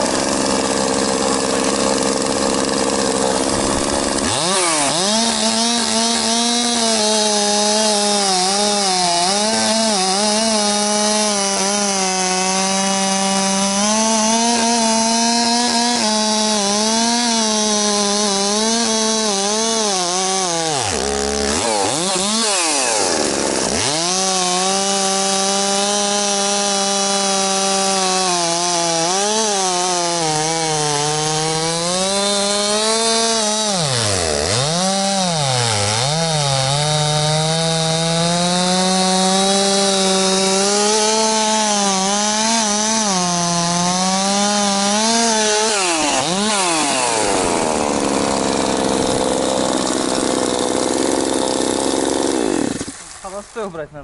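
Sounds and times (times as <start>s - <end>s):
chainsaw cutting a log: 0.0s - 54.0s.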